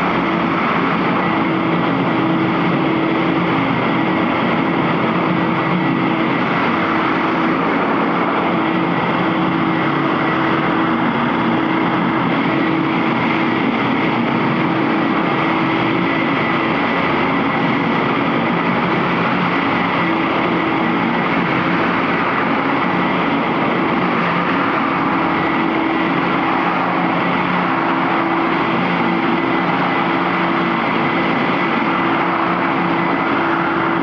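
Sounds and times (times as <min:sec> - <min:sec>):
floor grinder grinding: 0:00.0 - 0:34.0
motor hum: 0:00.0 - 0:34.0.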